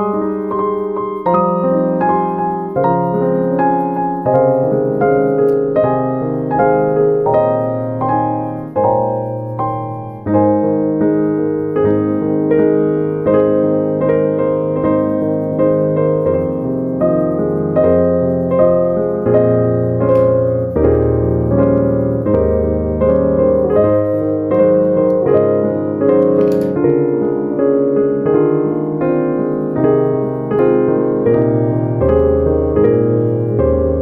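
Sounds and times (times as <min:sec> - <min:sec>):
gentle piano melody: 0:00.0 - 0:34.0.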